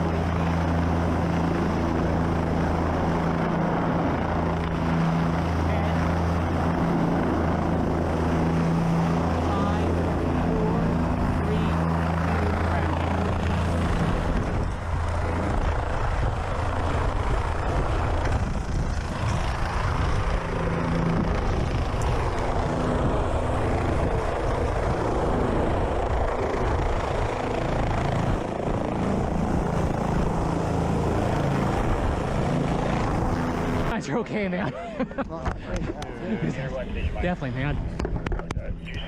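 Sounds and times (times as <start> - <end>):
helicopter rotor drone: 0.0 - 39.0.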